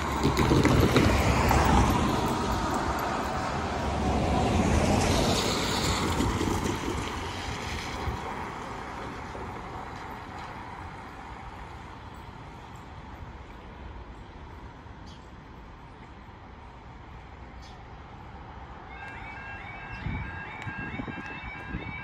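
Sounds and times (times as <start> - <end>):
cars driving on wet road: 0.0 - 22.0.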